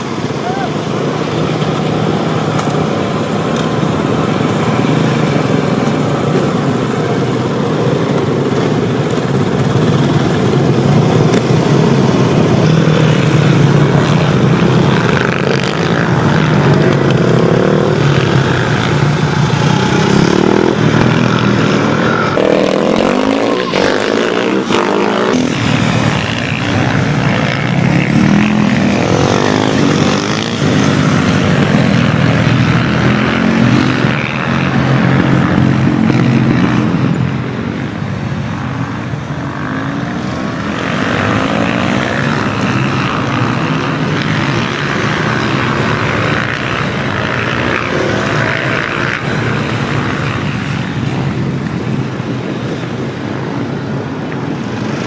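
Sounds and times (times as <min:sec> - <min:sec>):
motorcycle engines revving: 0:00.0 - 0:55.0
motorcycles riding past: 0:00.0 - 0:55.0.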